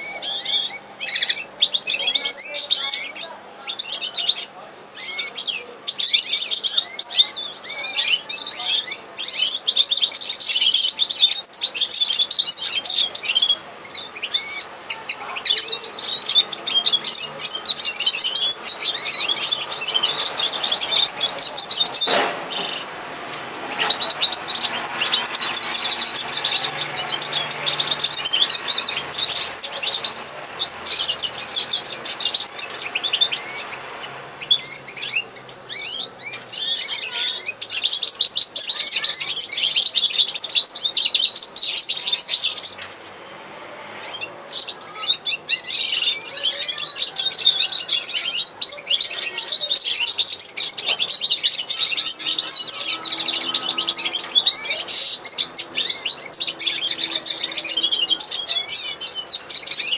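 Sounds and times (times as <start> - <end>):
bird singing twittering notes: 0.0 - 22.9, 23.7 - 43.0, 44.0 - 59.9.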